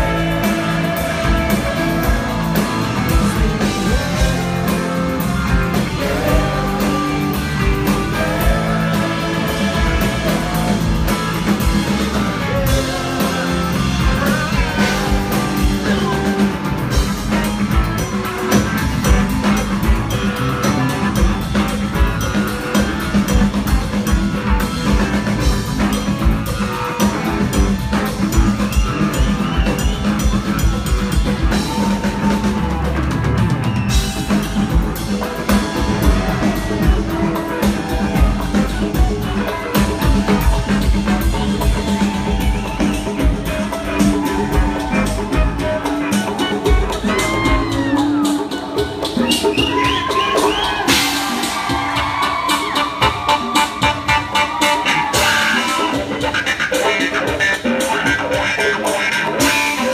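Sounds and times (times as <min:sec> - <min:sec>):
electric bass: 0:00.0 - 0:49.3
drum kit beat: 0:00.0 - 0:59.9
electric guitars: 0:00.0 - 0:59.9.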